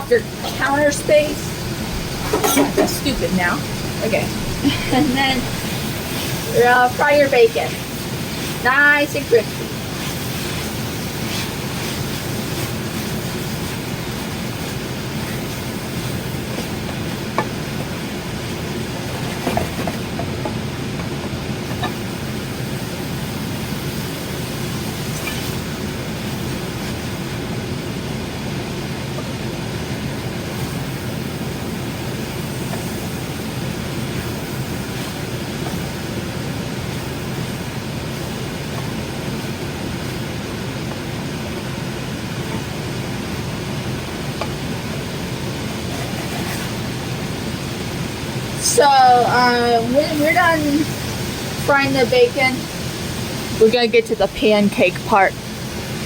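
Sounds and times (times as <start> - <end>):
bacon frying in a pan: 0.0 - 56.0
fan whooshing: 0.0 - 56.0.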